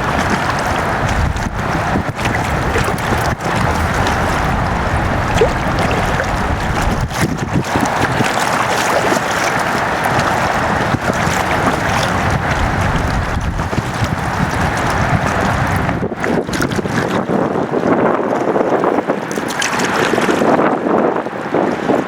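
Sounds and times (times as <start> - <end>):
moving water: 0.0 - 22.0
wind buffeting microphone: 0.0 - 22.0.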